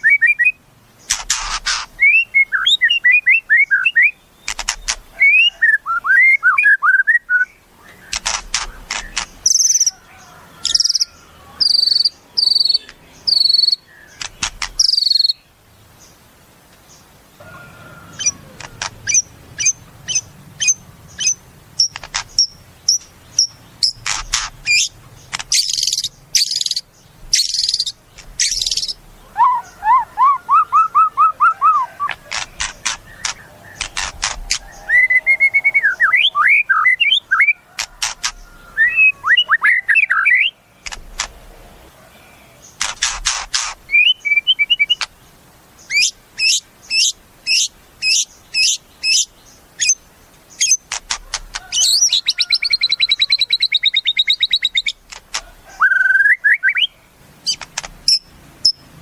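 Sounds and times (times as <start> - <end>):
songbird singing varied song: 0.0 - 59.0.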